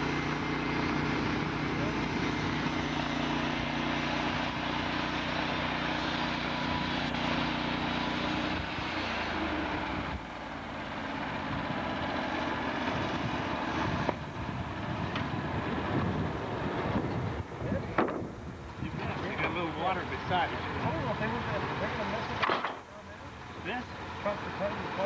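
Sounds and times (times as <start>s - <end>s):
sawmill engine droning: 0.0s - 25.0s.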